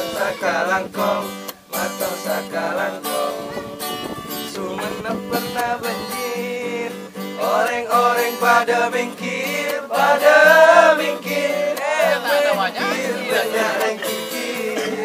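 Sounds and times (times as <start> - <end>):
acoustic guitar strumming: 0.0 - 15.0
young man singing: 0.0 - 15.0.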